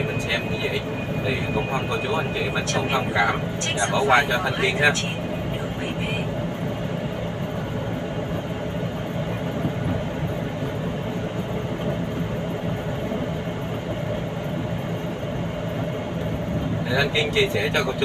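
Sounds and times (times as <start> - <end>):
road noise: 0.0 - 18.0
truck engine hum: 0.0 - 18.0.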